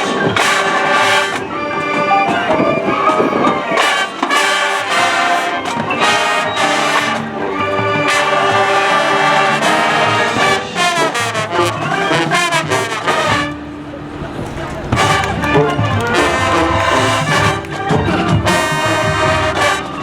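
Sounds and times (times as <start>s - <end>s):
marching band brass playing: 0.0s - 20.0s.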